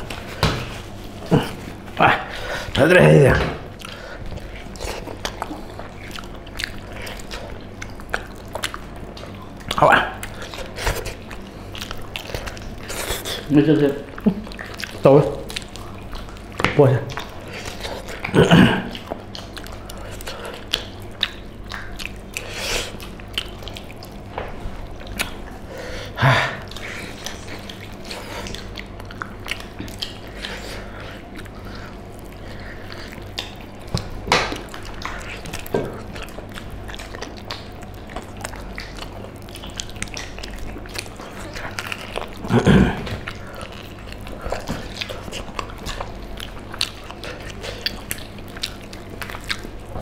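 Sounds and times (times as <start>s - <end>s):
low steady hum: 0.0s - 50.0s
wet chewing and lip smacking: 0.0s - 50.0s.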